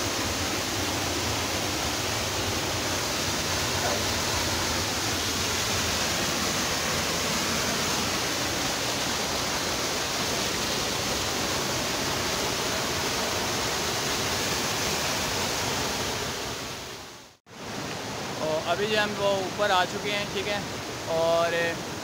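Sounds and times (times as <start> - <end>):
waterfall pouring over rocks: 0.0 - 22.0.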